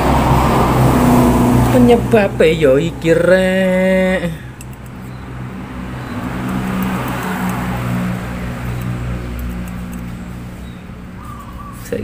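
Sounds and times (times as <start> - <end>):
steady low hum: 0.0 - 11.8
motor vehicle passing by: 0.0 - 12.0.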